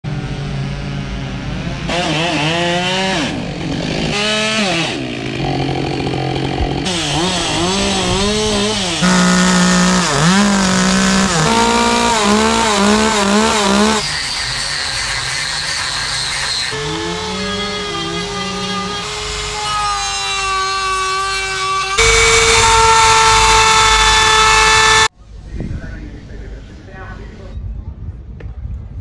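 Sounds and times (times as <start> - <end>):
chainsaw cutting wood: 1.9 - 25.1.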